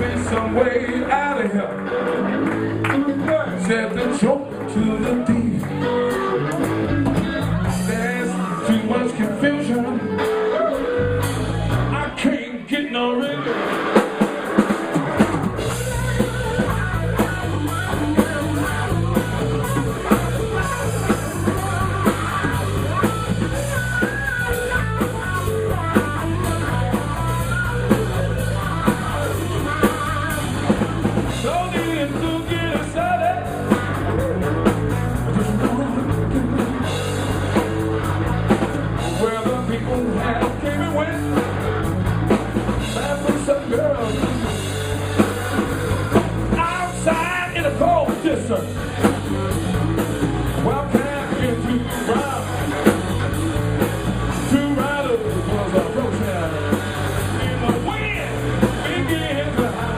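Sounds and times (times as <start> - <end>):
drum kit beat: 0.0 - 12.0, 13.5 - 59.9
bass line: 0.0 - 59.9
lead guitar with bent notes: 0.0 - 59.9.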